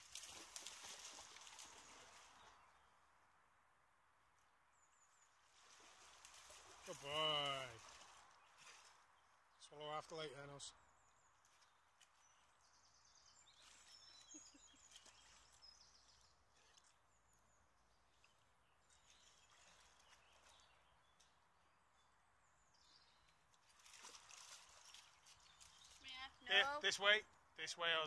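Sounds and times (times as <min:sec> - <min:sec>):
faint splashing in shallow water: 0:00.0 - 0:03.5, 0:04.9 - 0:26.6
faint birdsong: 0:00.0 - 0:28.0.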